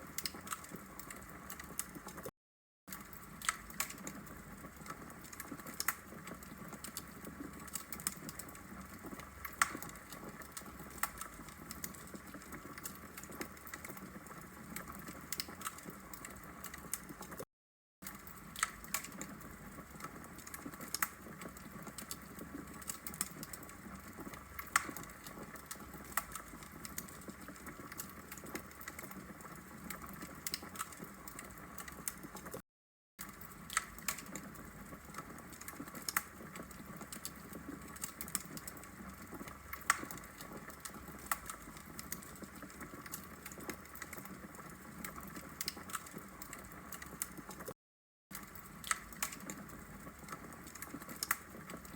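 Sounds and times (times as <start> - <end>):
fire crackling and popping: 0.0 - 2.3, 2.9 - 17.4, 18.0 - 32.6, 33.2 - 51.9.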